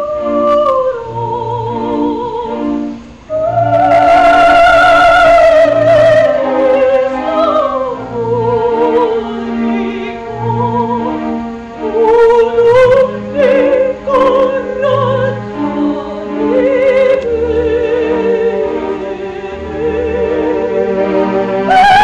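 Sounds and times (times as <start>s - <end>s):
instrumental accompaniment: 0.0s - 22.0s
woman singing opera: 0.0s - 22.0s.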